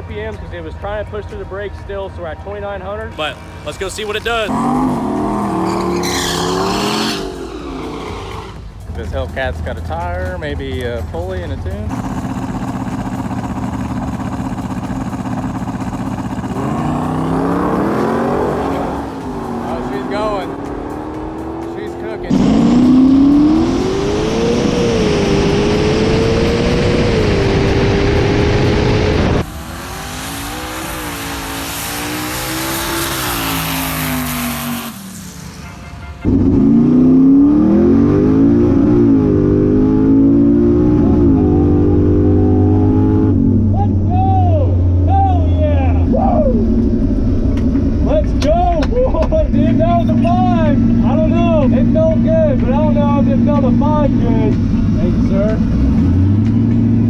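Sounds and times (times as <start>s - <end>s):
engine running and revving: 0.0s - 35.6s, 36.2s - 57.0s.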